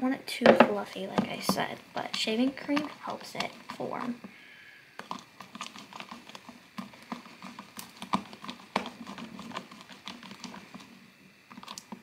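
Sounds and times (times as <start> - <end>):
spoon stirring slime: 0.5 - 4.3, 5.0 - 12.0.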